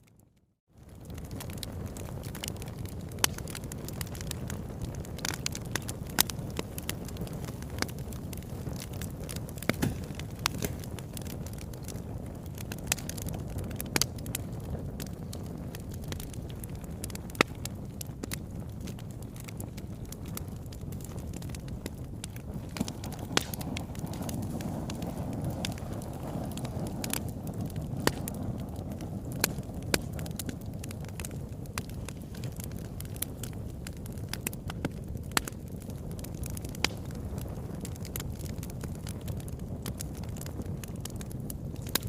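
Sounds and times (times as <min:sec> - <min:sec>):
fire crackling in fireplace: 0:00.1 - 0:42.0.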